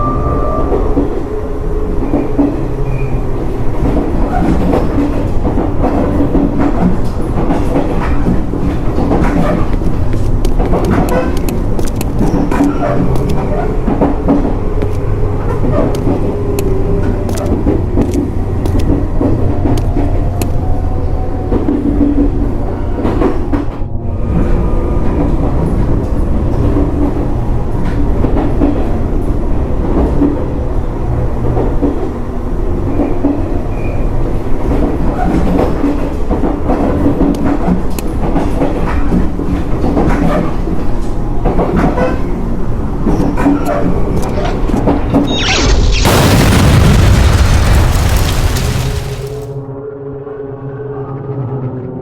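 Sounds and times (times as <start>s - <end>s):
train rumbling: 0.0s - 49.5s.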